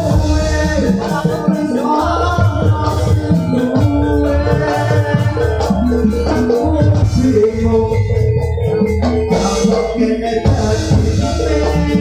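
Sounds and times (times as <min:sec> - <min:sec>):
gamelan music: 0:00.0 - 0:12.0
person singing: 0:00.0 - 0:12.0.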